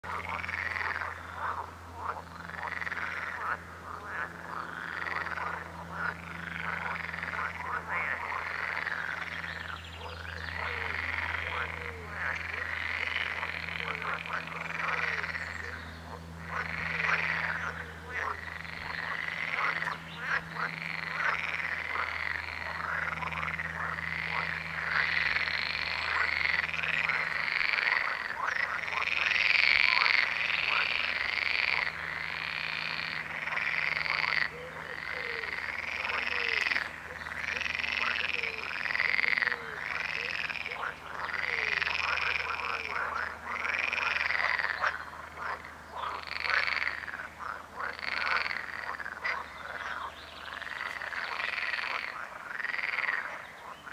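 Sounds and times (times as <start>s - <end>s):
frogs croaking: 0.0s - 53.9s
low steady hum: 0.0s - 53.9s
frogs rattling calls: 0.1s - 53.9s.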